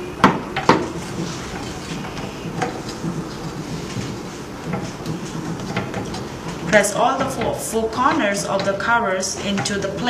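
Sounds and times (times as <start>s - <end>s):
rubbing and handling noises: 0.8s - 10.0s.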